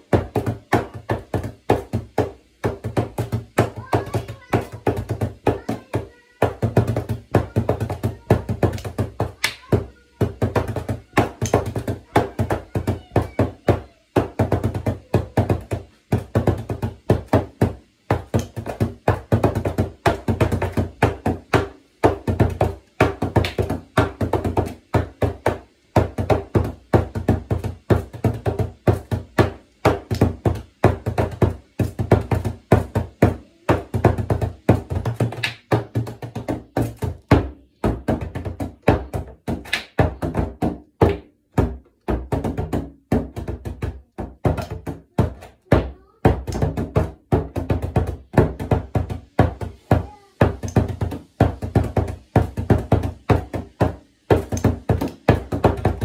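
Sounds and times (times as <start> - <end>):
frame drum played with brush: 0.0 - 56.0.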